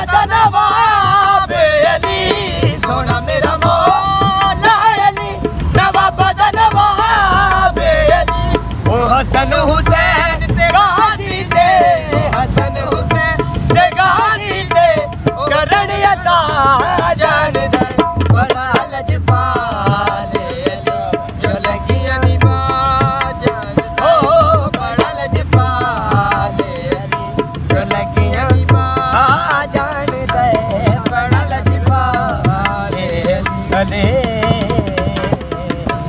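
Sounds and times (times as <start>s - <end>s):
man singing: 0.0s - 36.0s.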